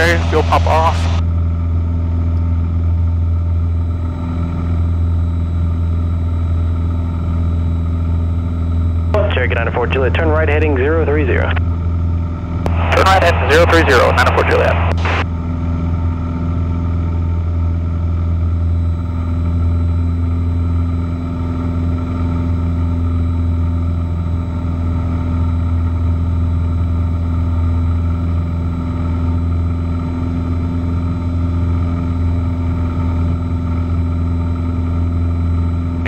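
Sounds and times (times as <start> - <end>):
airplane piston engine droning: 0.0 - 36.0.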